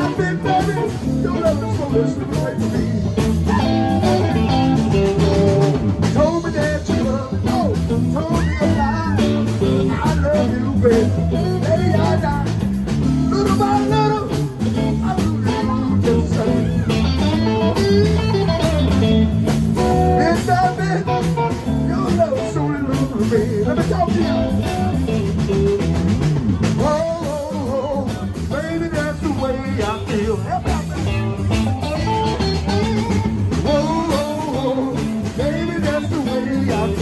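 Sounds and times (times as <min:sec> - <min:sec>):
bass line: 0:00.0 - 0:37.0
electric guitars: 0:00.0 - 0:37.0.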